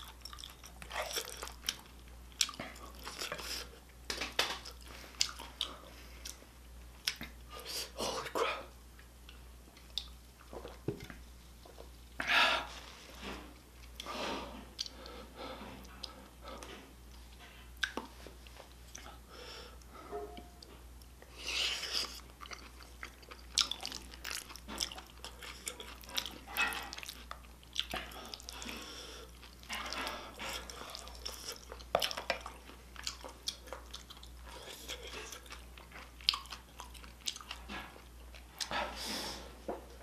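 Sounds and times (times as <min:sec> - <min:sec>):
person chewing food: 0:00.0 - 0:08.4, 0:09.0 - 0:40.0.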